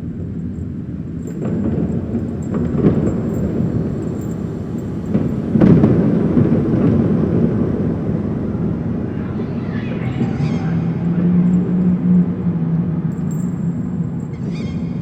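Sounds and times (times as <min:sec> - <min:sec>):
deep continuous rumble: 0:00.0 - 0:15.0.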